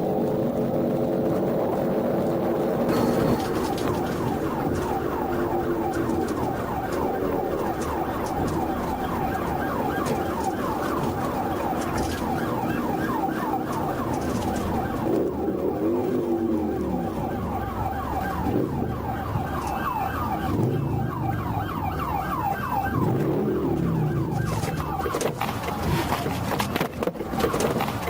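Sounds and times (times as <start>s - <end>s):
car engine and road noise: 0.0s - 28.0s
police siren yelping: 2.8s - 28.0s.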